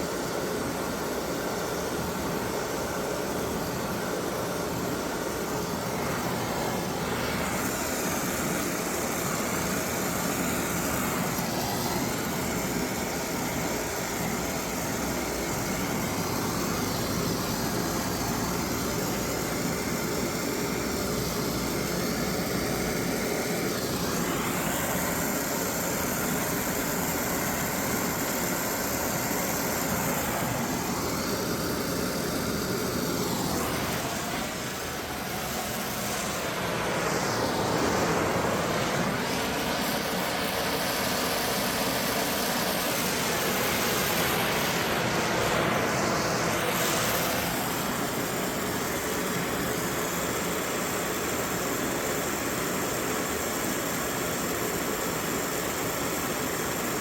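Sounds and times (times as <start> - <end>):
torch flame hissing: 0.0 - 57.0.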